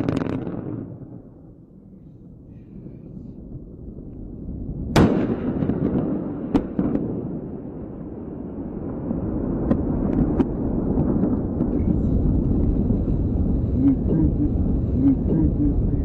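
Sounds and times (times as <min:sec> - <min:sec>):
rocket explosion blast: 0:00.0 - 0:01.4, 0:03.5 - 0:15.0
low rumble: 0:00.0 - 0:16.0.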